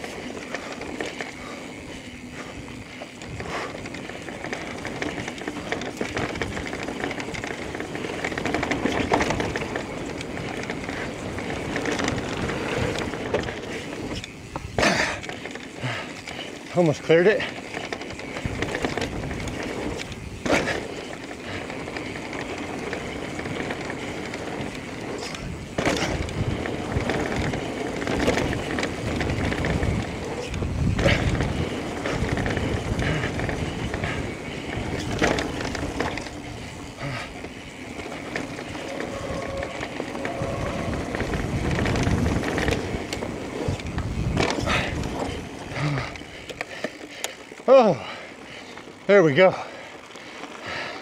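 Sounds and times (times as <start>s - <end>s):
bike tyre and drivetrain rumble: 0.0s - 51.0s.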